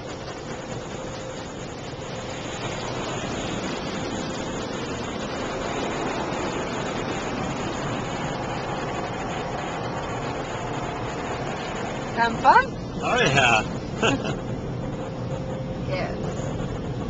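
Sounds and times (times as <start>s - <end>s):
car wash water and machinery: 0.0s - 17.0s.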